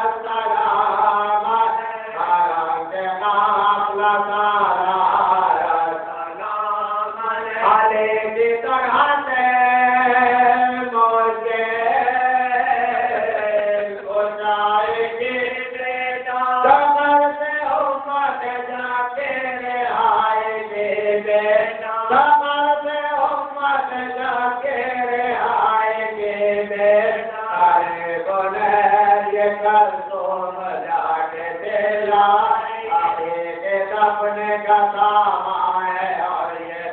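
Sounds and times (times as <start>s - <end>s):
man chanting: 0.0s - 36.9s.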